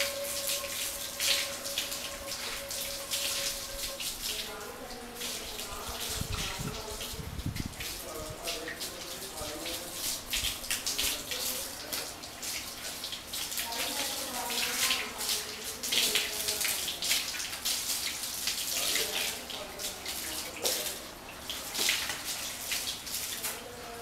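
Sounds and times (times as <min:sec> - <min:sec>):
hose water splashing: 0:00.0 - 0:24.0.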